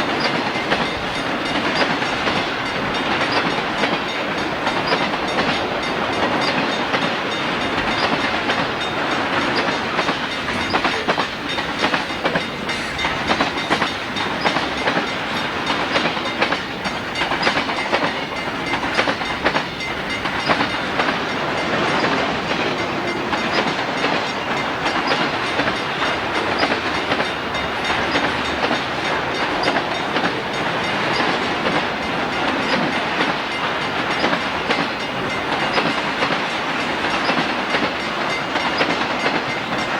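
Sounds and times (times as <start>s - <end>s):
train wheels clicking on rail joints: 0.0s - 39.9s.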